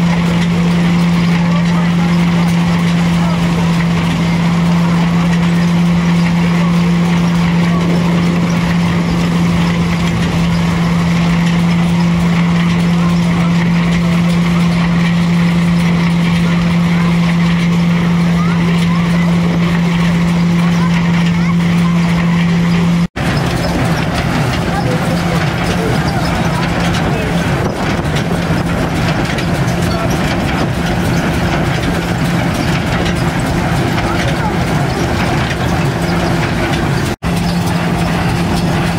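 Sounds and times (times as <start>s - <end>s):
threshing machine droning: 0.0s - 38.9s.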